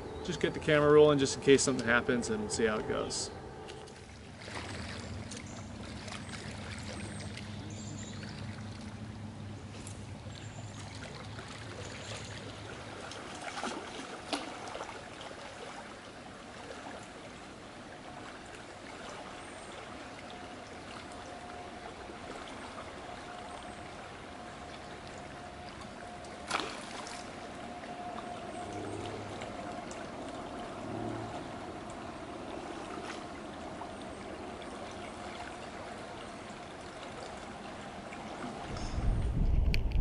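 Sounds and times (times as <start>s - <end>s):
river water rushing: 0.0s - 38.8s.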